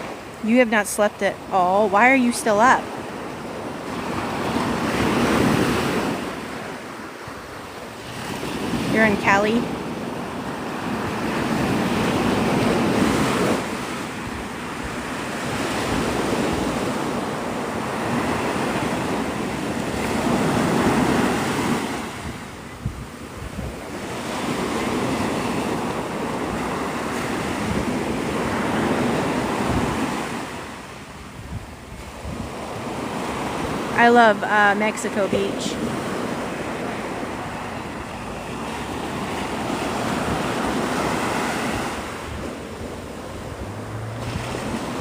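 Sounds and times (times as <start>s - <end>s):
waves breaking on beach: 0.0s - 45.0s
wind buffeting microphone: 2.3s - 34.5s, 35.3s - 45.0s.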